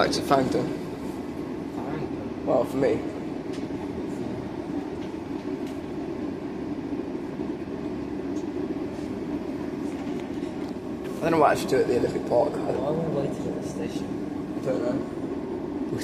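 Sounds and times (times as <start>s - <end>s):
train carriage noise: 0.0s - 16.0s.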